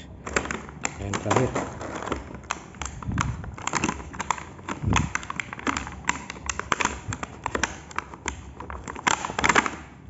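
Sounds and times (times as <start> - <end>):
plastic packaging crinkling: 0.3 - 9.8.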